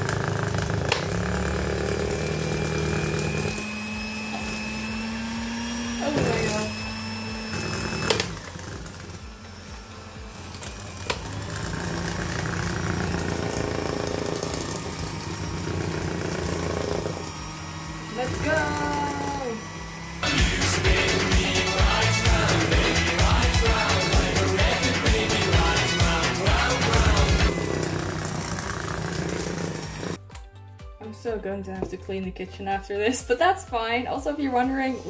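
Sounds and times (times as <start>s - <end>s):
small electric motor humming: 0.0s - 30.2s.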